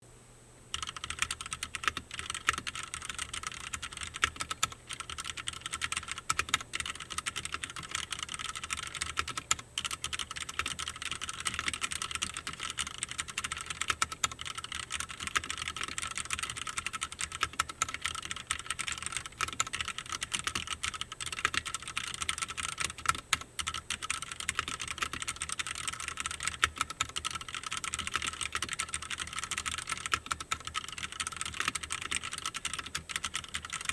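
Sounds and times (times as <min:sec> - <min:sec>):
fast typing on mechanical keyboard: 0:00.7 - 0:33.9.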